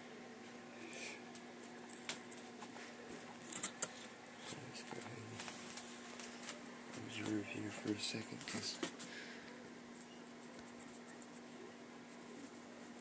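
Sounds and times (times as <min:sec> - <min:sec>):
faint steady hum: 0:00.0 - 0:13.0
rat scrabbling over husk chips: 0:01.3 - 0:13.0.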